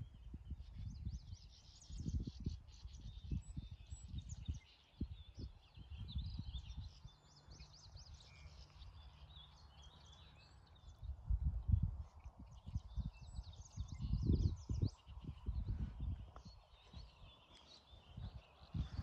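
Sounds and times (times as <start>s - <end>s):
songbirds chirping and singing: 0.0s - 19.0s
wind rumble on microphone: 0.0s - 19.0s.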